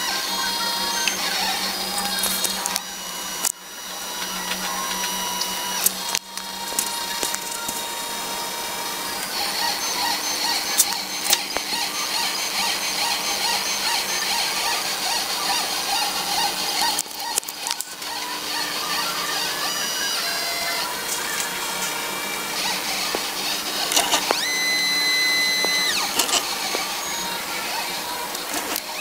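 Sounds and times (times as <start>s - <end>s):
stepper motors whining: 0.0s - 29.0s
clicks: 0.9s - 8.1s, 8.8s - 29.0s.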